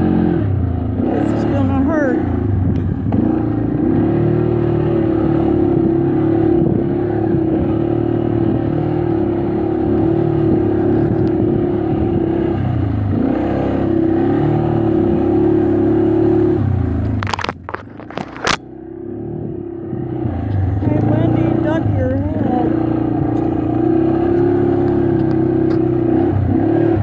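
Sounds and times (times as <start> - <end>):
engine revving: 0.0 - 27.0.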